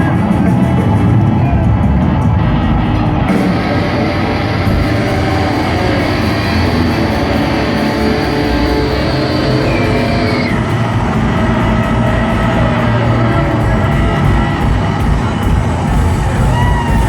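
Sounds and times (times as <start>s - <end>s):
rock band playing loudly: 0.0s - 17.0s.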